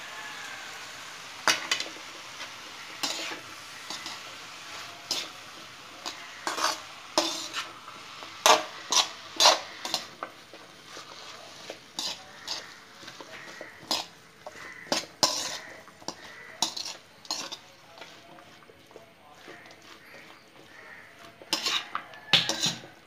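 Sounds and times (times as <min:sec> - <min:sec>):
frying sizzle: 0:00.0 - 0:23.0
metal spatula scraping pan: 0:01.4 - 0:23.0.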